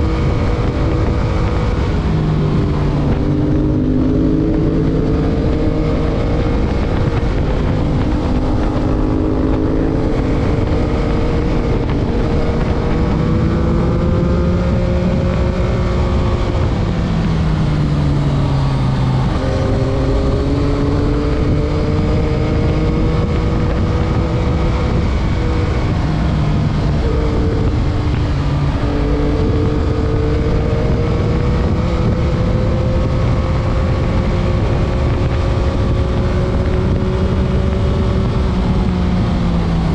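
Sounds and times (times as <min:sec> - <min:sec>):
motorcycle engine revving: 0:00.0 - 0:39.9
wind rush over microphone: 0:00.0 - 0:39.9.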